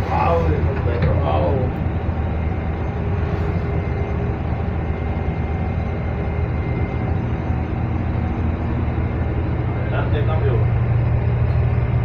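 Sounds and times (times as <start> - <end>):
diesel engine droning: 0.0 - 12.0
faint high whine: 0.1 - 12.0.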